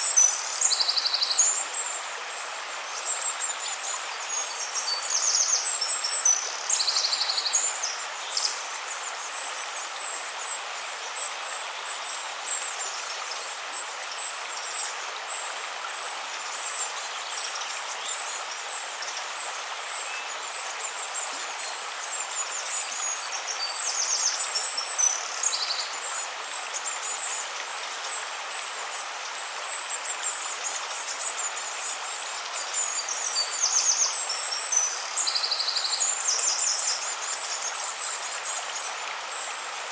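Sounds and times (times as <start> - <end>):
river water flowing: 0.0 - 39.9
small birds chirping: 0.0 - 39.9.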